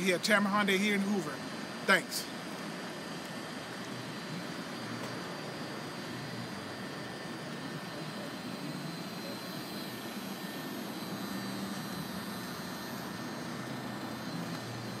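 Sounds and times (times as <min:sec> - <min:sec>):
outdoor hiss and rumble: 0:00.0 - 0:15.0.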